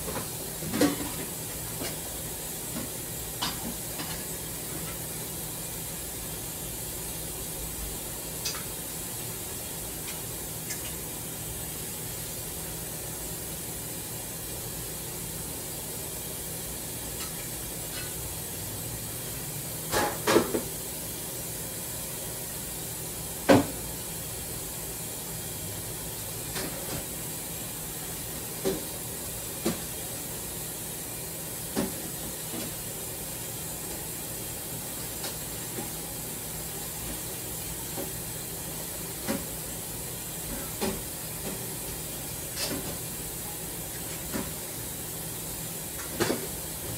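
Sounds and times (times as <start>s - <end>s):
steady hiss with low hum: 0.0s - 46.9s.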